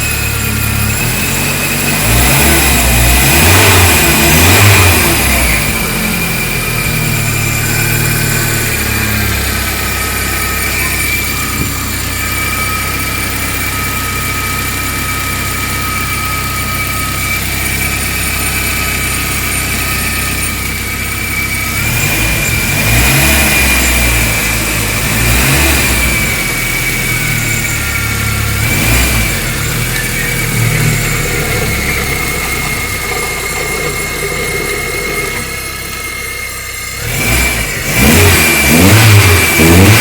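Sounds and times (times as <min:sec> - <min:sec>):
car engine running: 0:00.0 - 0:40.0
high-pitched engine whine: 0:00.0 - 0:40.0.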